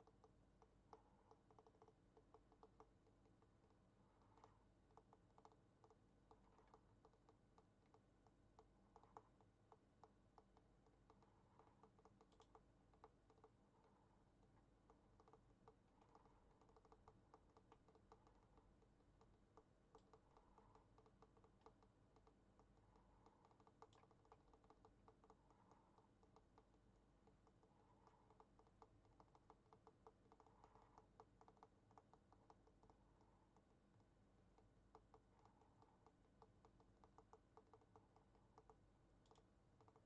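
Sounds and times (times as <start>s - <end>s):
computer keyboard keys clicking: 4.3s - 13.6s, 14.8s - 33.7s, 34.6s - 40.0s.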